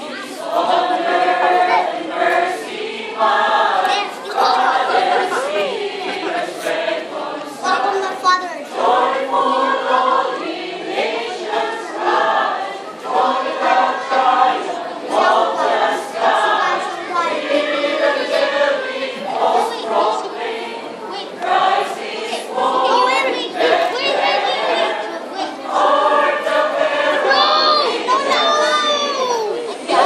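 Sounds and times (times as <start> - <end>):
mixed choir singing: 0.0 - 30.0.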